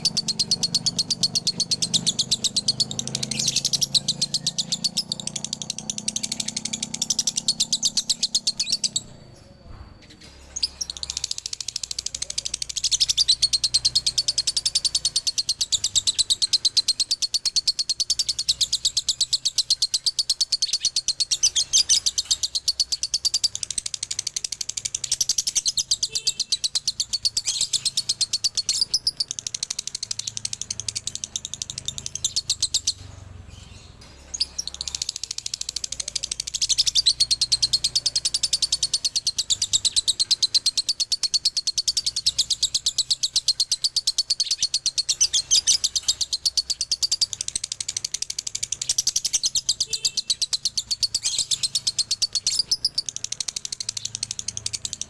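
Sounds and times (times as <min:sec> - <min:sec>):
lovebird chattering high chirps: 0:00.0 - 0:55.0.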